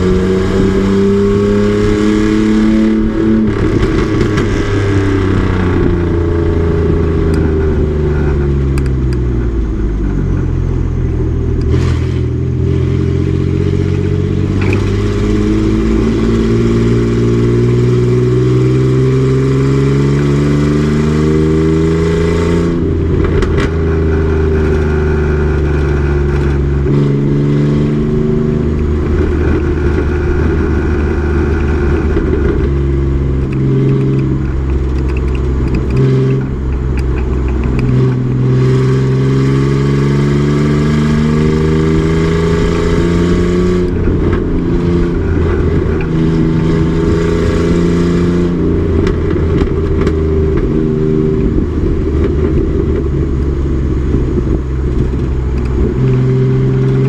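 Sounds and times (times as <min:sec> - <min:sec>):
race truck engine at full throttle: 0:00.0 - 0:57.0.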